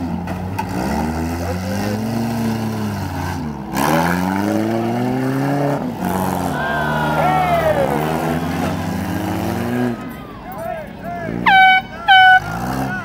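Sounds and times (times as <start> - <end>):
car engines revving hard: 0.0 - 13.0
drone of engines: 1.0 - 13.0.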